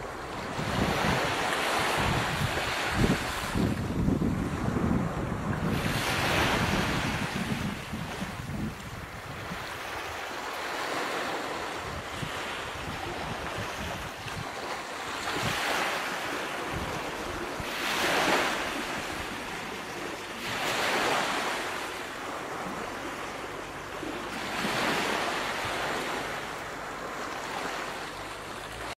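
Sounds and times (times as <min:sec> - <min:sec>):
wind and spray hiss: 0:00.0 - 0:28.9
waves washing in: 0:00.0 - 0:29.0.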